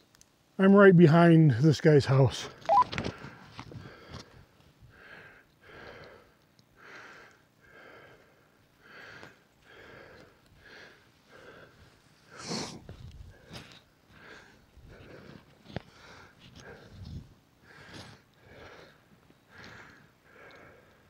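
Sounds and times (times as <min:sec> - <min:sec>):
heavy rhythmic breathing: 0:03.3 - 0:21.0.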